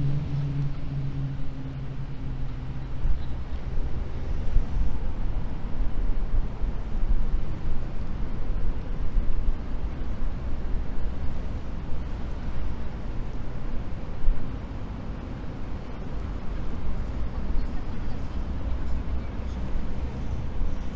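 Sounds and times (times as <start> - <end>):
low outdoor rumble: 0.0 - 20.9.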